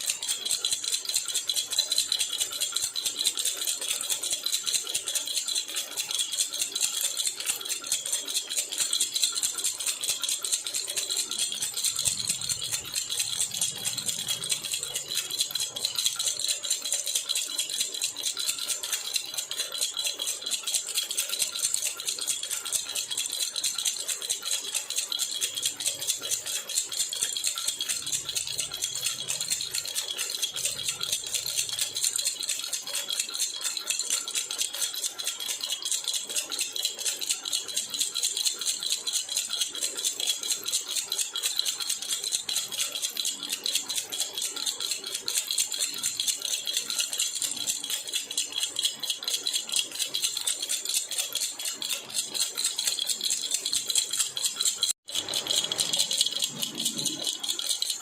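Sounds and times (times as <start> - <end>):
metal baby rattle jingling: 0.0 - 58.0.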